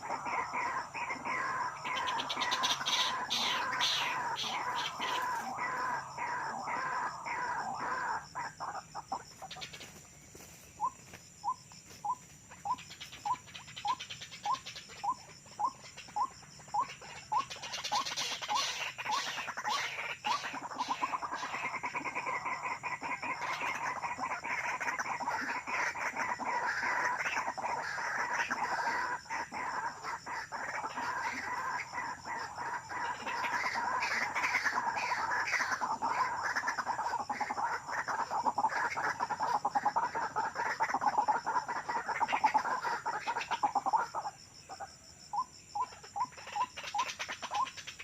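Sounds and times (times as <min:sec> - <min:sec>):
overlapping bird calls: 0:00.0 - 0:48.0.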